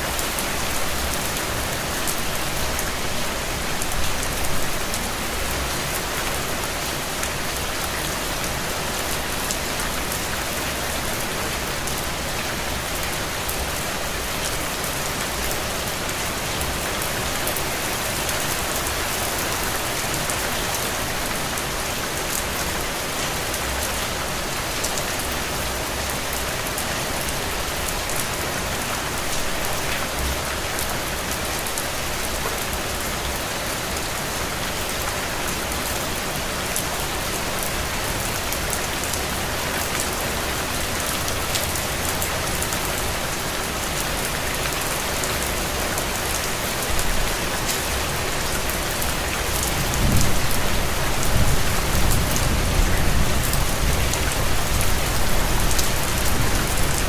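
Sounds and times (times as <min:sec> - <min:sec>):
rain on a window: 0:00.1 - 0:57.0.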